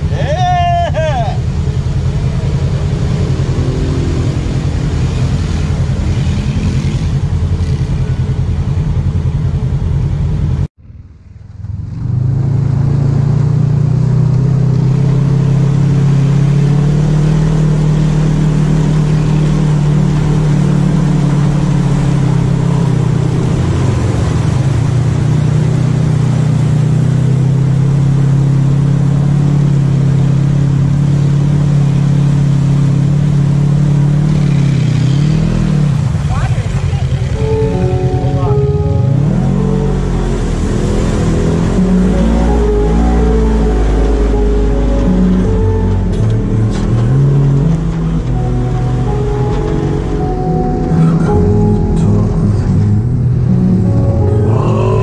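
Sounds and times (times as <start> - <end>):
vehicle driving through muddy water: 0.0 - 55.0
quad engine revving: 1.3 - 9.5, 11.6 - 50.2.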